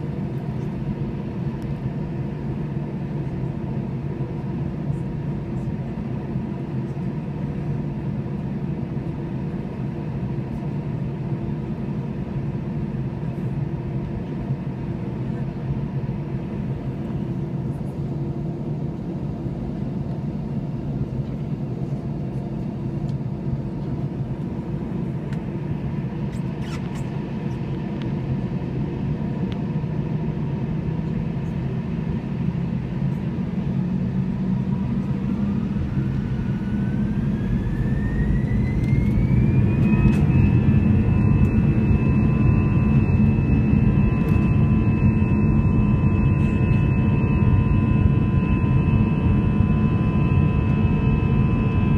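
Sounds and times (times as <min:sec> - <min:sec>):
jet engine rumble: 0:00.0 - 0:51.9
jet engine whine rising in pitch: 0:00.1 - 0:51.9.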